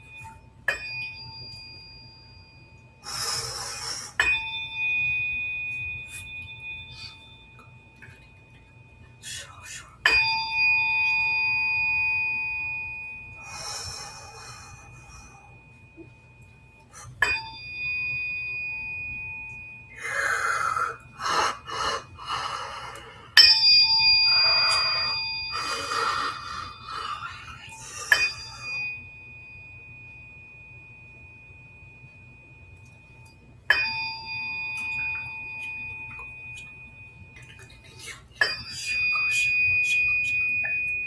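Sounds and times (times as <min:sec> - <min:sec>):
tuning forks ringing: 0:00.0 - 0:41.0.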